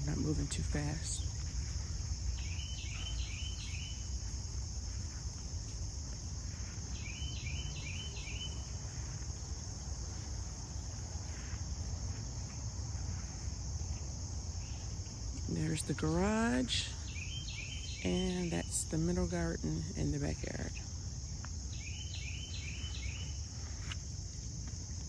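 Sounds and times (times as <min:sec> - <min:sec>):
constant low rumble: 0:00.0 - 0:25.0
high-pitched insect chorus: 0:00.0 - 0:25.0.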